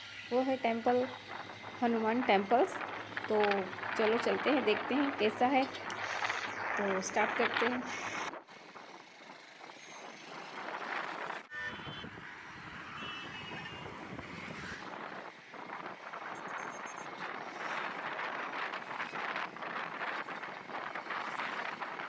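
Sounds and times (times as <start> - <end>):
road traffic rush: 0.0 - 22.0.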